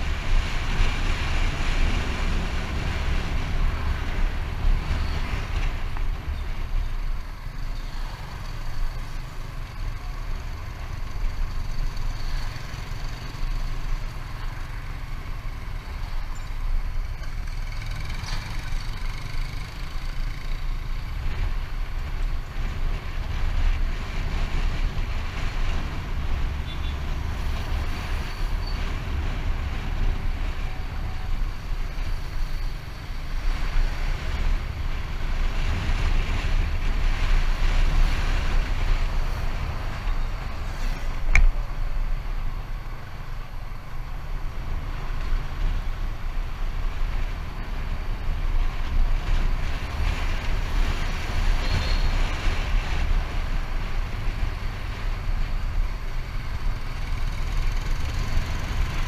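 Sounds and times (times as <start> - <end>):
vehicle rumble: 0.0 - 59.0
wind noise: 0.0 - 59.0.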